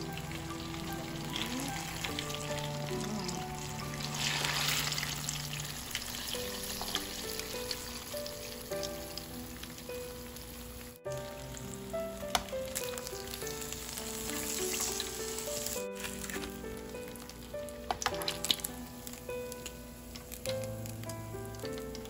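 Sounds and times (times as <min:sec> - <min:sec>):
food sizzling in hot oil: 0:00.0 - 0:22.0
soft background music: 0:00.0 - 0:22.0.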